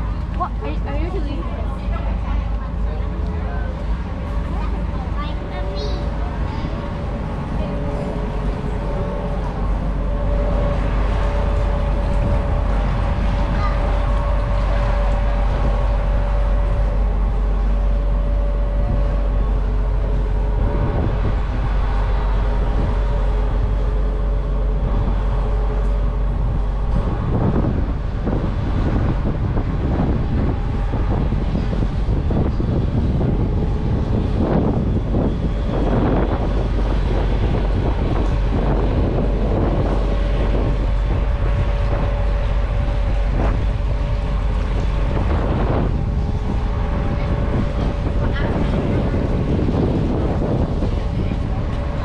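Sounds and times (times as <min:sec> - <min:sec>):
boat engine rumbling: 0:00.0 - 0:52.0
wind buffeting microphone: 0:00.0 - 0:52.0.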